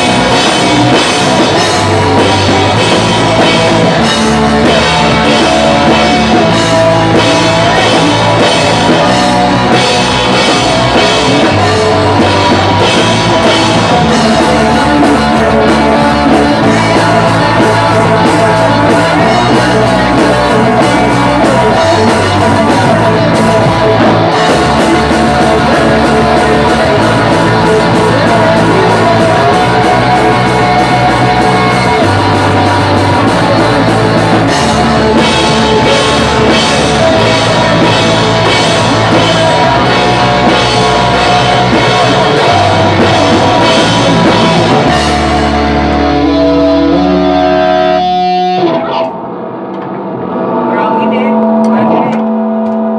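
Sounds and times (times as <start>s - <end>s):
drum kit with cymbals: 0.0s - 48.4s
sung and shouted vocals: 0.0s - 49.1s
distorted guitars and bass: 0.0s - 52.9s.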